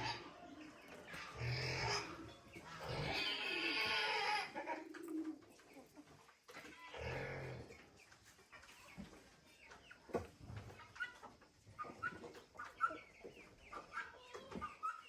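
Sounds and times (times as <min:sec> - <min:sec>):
farm animals calling: 0:00.0 - 0:15.0.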